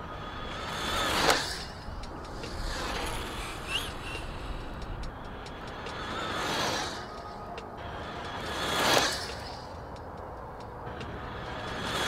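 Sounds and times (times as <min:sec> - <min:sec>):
electric motor whine: 0:00.0 - 0:09.7
open-air background noise: 0:00.0 - 0:12.0.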